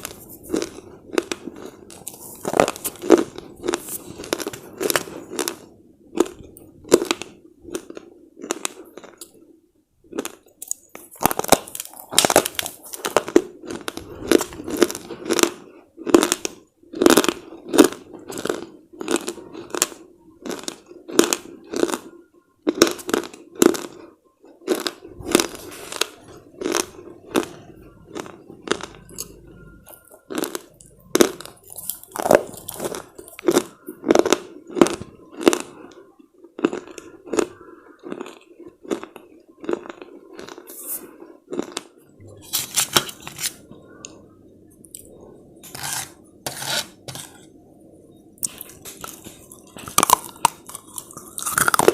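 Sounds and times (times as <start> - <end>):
teeth crunching slate chips: 0.0 - 9.4, 10.1 - 44.2, 48.4 - 51.9.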